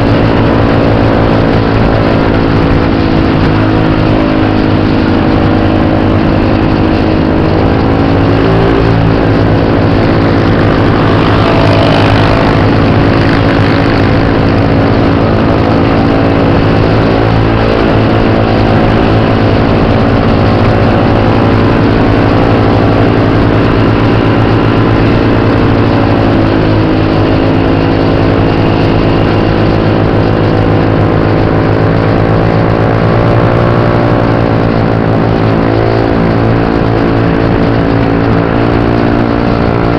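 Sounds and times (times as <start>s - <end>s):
motor scooter engine: 0.0s - 39.9s
wind and road noise: 0.0s - 39.9s.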